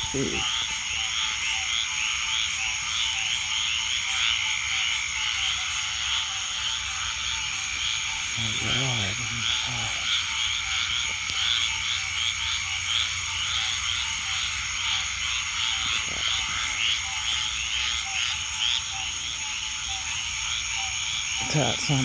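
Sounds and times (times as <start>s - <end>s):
frogs calling: 0.0s - 22.0s.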